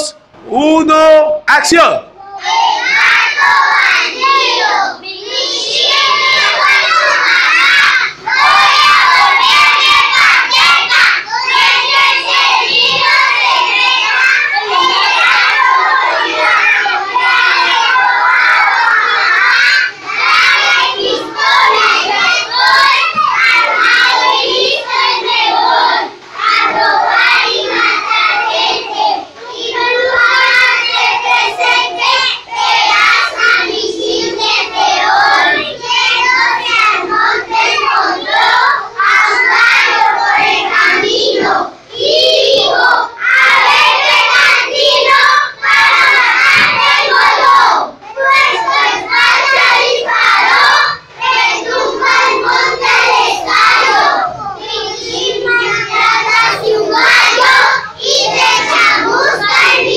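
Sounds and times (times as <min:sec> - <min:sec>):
children singing in chorus: 0:02.2 - 0:59.9.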